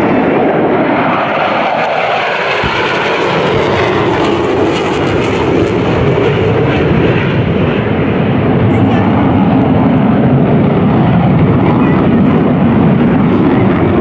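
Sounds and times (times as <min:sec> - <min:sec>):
jet roar passing low: 0:00.0 - 0:14.0.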